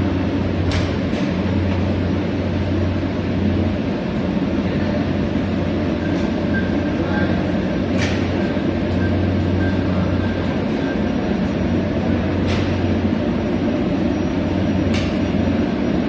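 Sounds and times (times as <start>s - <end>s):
production line machinery din: 0.0s - 16.0s.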